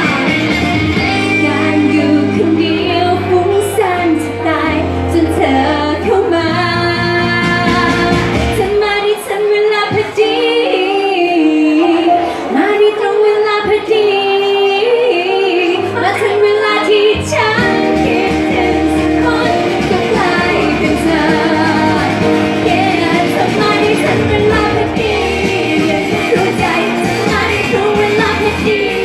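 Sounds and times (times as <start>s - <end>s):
backing music over speakers: 0.0s - 29.0s
woman singing into microphone: 1.0s - 29.0s.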